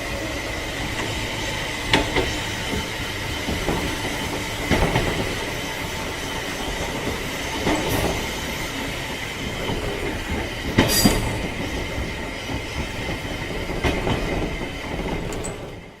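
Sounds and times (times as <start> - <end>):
train rumbling on rails: 0.0 - 16.0
wheels knocking over rail joints: 0.8 - 16.0.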